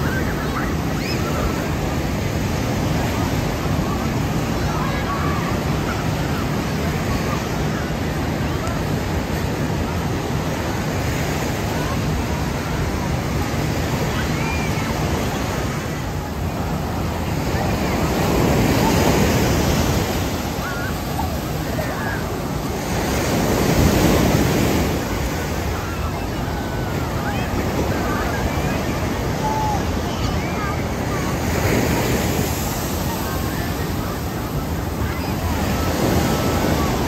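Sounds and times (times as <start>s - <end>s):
ocean surf on beach: 0.0s - 37.0s.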